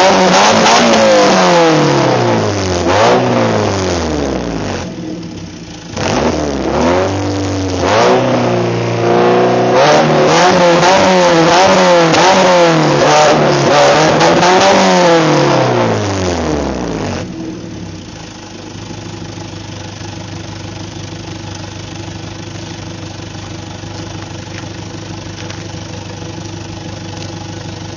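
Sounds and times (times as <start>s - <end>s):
car engine revving and idling: 0.0s - 27.9s.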